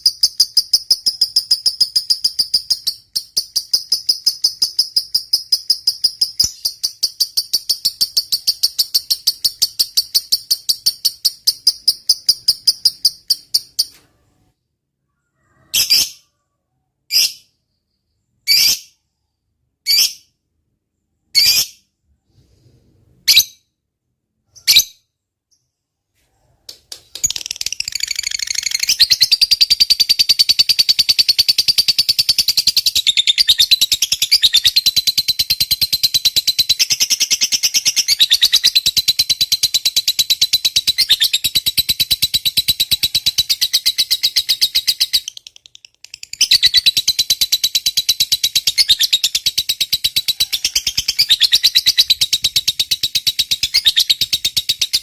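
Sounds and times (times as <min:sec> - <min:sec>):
bird chirping and trilling: 0:00.0 - 0:20.4, 0:21.2 - 0:21.9, 0:27.1 - 0:55.0.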